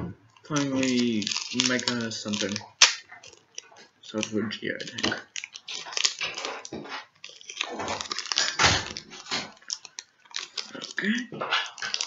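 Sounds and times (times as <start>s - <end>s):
foil wrapper and cards crinkling: 0.3s - 12.0s.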